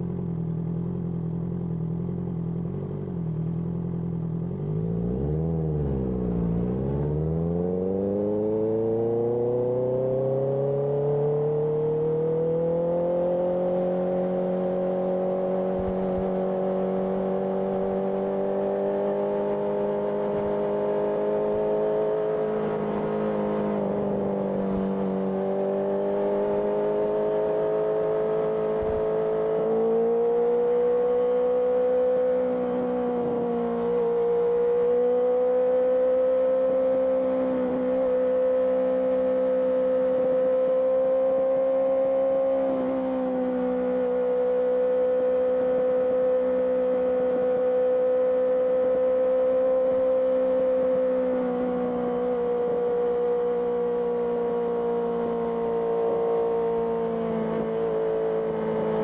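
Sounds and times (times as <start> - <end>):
motorcycle engine revving: 0.8 - 59.0.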